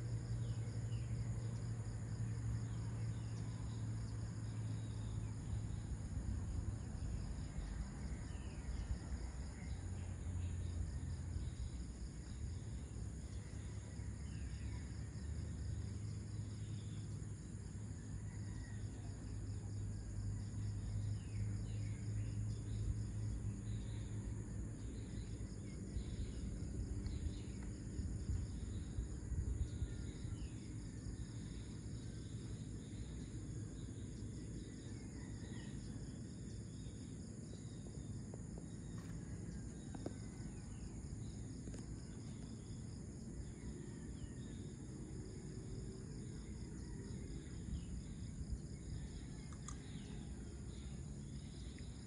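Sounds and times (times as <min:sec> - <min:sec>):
insects chirring: 0:00.0 - 0:52.0
low steady rumble: 0:00.0 - 0:52.0.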